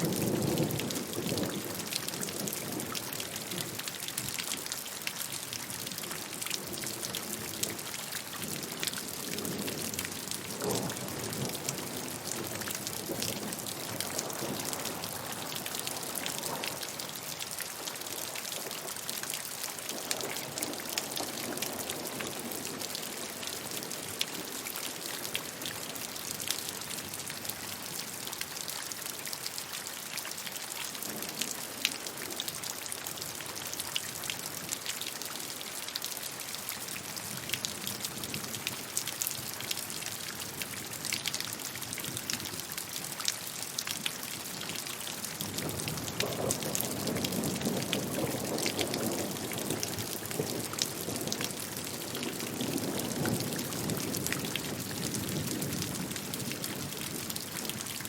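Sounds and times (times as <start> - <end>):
rain pattering on hard surface: 0.0 - 58.0.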